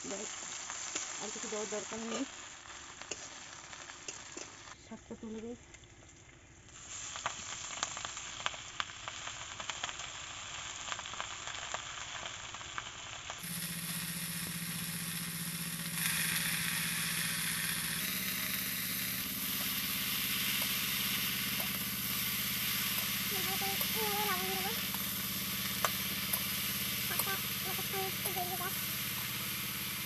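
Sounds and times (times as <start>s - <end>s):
vegetables sizzling in hot oil: 0.0s - 5.5s, 6.7s - 30.0s.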